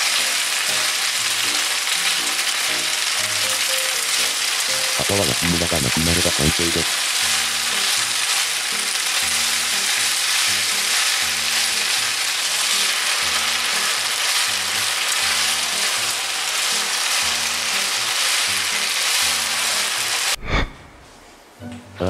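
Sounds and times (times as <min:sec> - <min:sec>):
chopsticks stirring in a pan: 0:00.0 - 0:20.4
meat and onions sizzling in a pan: 0:00.0 - 0:20.4.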